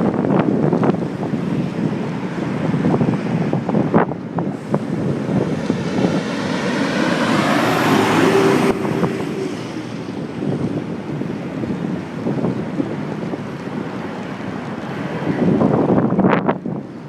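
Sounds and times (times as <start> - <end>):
traffic noise: 0.0 - 17.0
wind buffeting microphone: 0.0 - 17.0.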